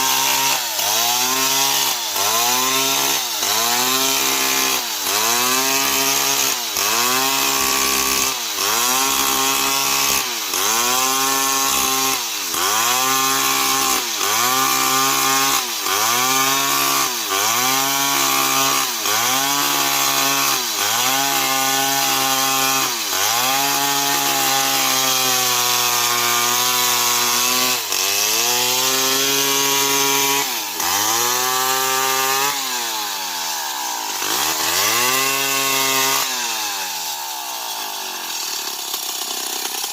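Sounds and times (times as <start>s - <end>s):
chainsaw cutting a tree: 0.0s - 39.9s.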